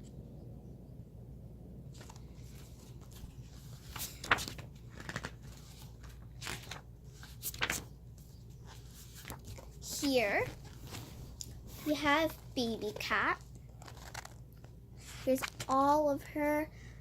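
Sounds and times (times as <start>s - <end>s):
low steady hum: 0.0s - 17.0s
book pages turning: 1.9s - 15.9s.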